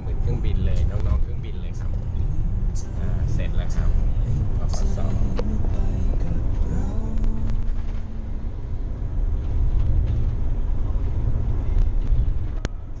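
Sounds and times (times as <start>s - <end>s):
bus engine rumble from inside: 0.0s - 13.0s.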